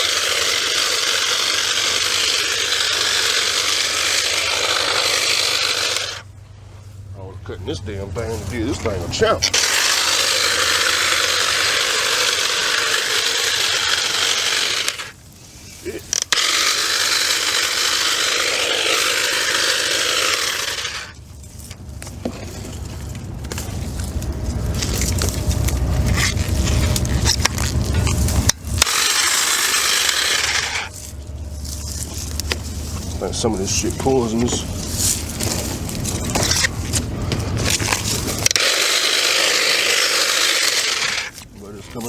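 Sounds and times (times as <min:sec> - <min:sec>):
cordless saw cutting vines: 0:00.0 - 0:06.4, 0:07.6 - 0:42.0
low rumble and scraping: 0:00.0 - 0:42.0.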